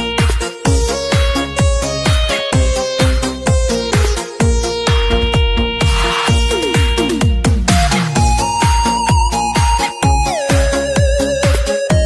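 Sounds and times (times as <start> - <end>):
kick drum beat: 0.1 - 12.0
synth melody: 0.2 - 12.0.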